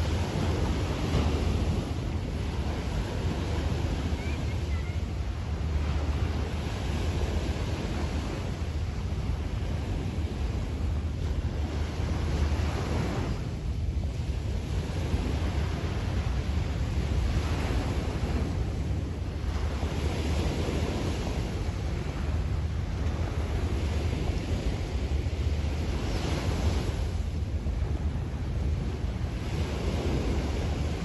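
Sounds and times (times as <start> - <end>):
sea waves washing onto beach: 0.0 - 31.0
wind rumble on microphone: 0.0 - 31.0.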